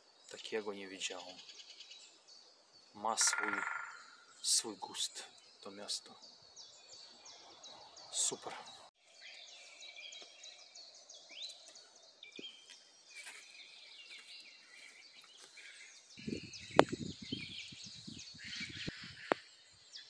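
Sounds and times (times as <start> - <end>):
birds chirping and singing: 0.0 - 20.0.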